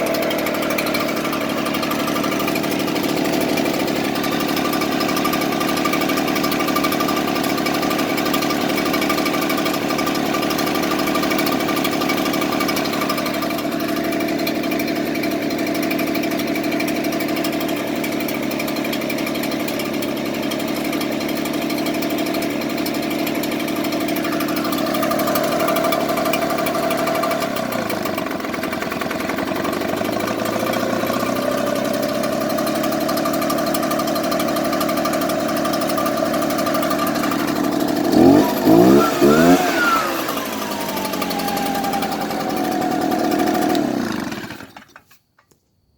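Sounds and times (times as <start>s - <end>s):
blower engine idling roughly: 0.0s - 45.2s.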